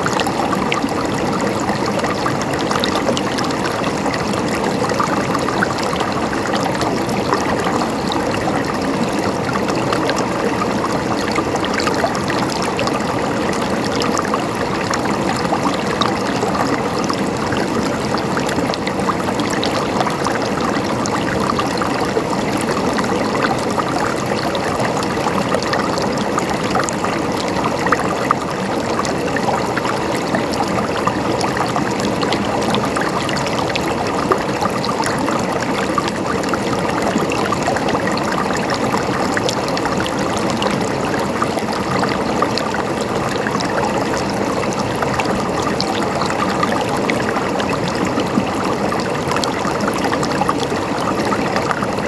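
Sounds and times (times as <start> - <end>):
stream water babbling: 0.0 - 52.0.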